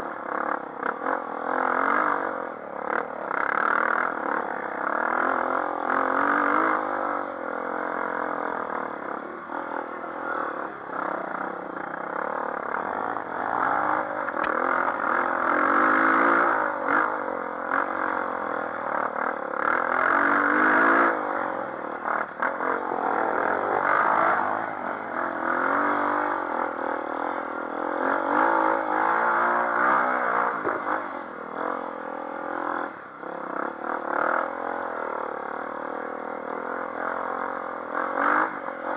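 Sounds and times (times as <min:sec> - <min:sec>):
dirt bike engine revving: 0:00.2 - 0:38.9.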